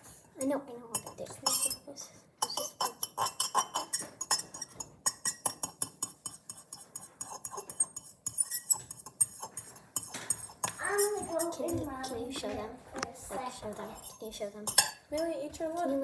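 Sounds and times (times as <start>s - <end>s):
whisk clinking against bowl: 0.9s - 12.5s, 13.6s - 15.0s.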